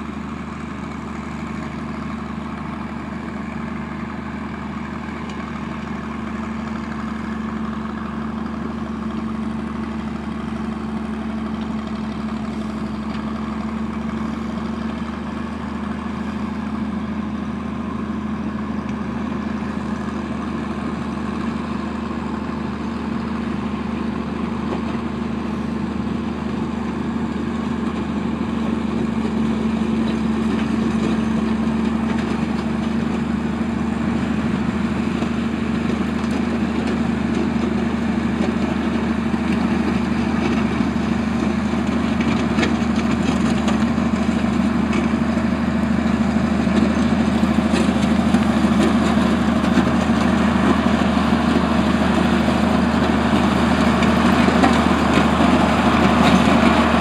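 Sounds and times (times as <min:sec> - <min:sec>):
diesel engine running: 0:00.0 - 0:57.0
gravel grinding: 0:01.0 - 0:57.0.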